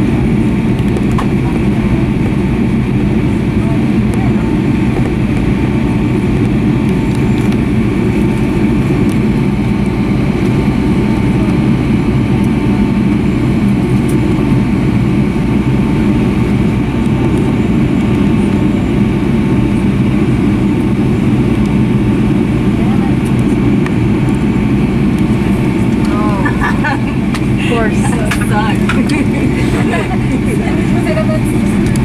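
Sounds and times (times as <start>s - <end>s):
jet engines rumbling: 0.0s - 32.0s
thin steady whine: 0.0s - 32.0s.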